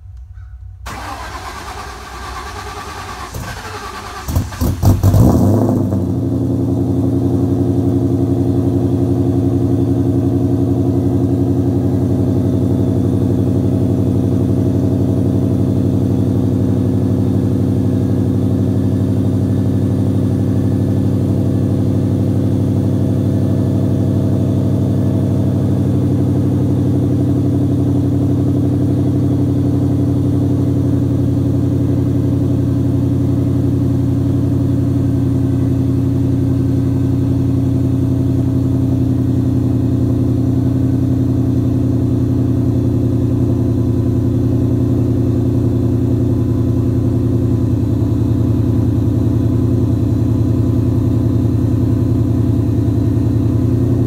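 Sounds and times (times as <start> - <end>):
car engine idling: 0.4 - 54.0.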